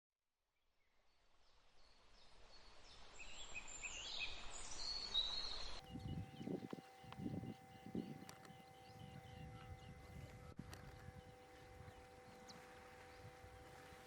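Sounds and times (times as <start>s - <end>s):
birds chirping: 2.2s - 14.0s.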